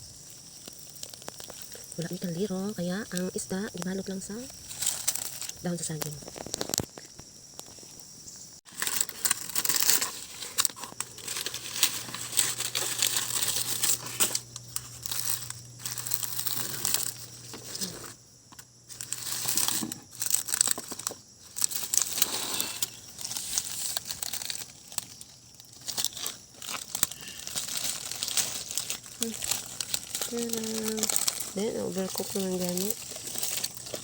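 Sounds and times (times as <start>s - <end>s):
banana leaves crinkling and tearing: 0.1s - 7.0s, 8.7s - 34.0s.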